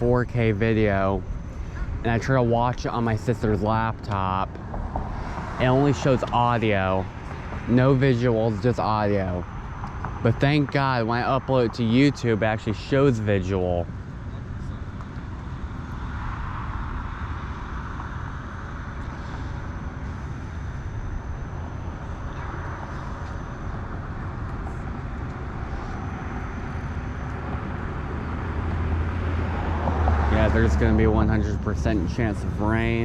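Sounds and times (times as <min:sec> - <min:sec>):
outdoor rumble and hiss: 0:00.0 - 0:33.0.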